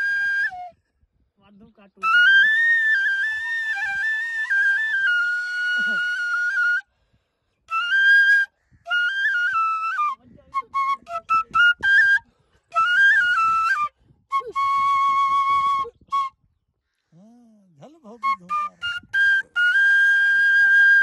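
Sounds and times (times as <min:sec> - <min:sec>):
flute playing folk melody: 0:00.0 - 0:07.0, 0:07.7 - 0:16.6, 0:18.1 - 0:21.0.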